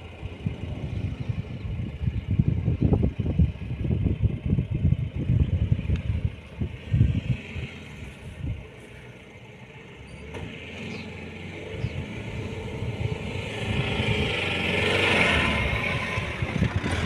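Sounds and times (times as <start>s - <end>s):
diesel engine working hard: 0.0s - 17.0s.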